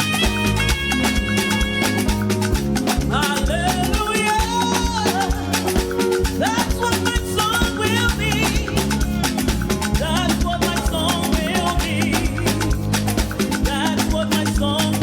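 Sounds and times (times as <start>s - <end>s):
sliding melodic lead line: 0.0s - 15.0s
worship band music: 0.0s - 15.0s.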